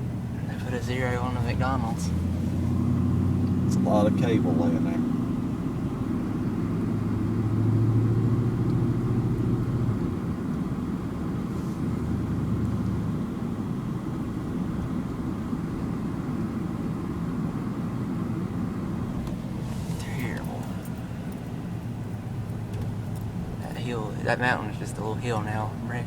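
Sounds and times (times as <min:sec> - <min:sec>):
car engine: 0:00.0 - 0:26.0
road rumble: 0:00.0 - 0:26.0.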